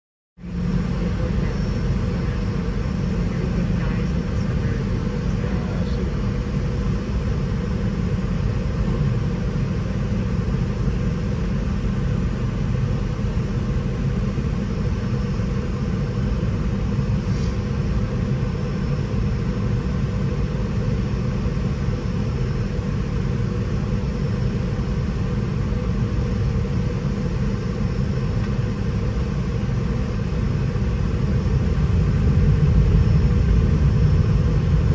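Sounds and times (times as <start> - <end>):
airliner engines rumbling: 0.4 - 34.9.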